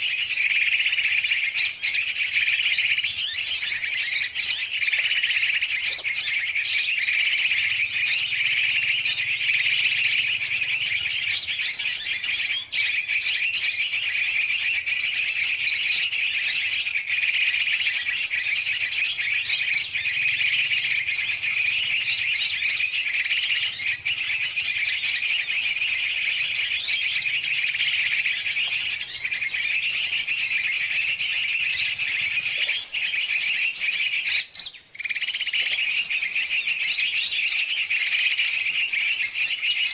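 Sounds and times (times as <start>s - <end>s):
chorus of birds chirping: 0.0s - 39.9s.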